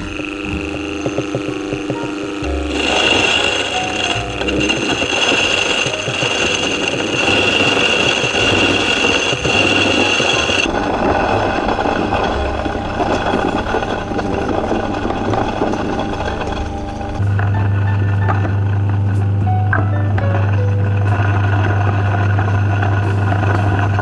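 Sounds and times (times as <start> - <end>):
electric grain mill grinding: 0.0 - 24.0
high steady whine: 0.0 - 24.0.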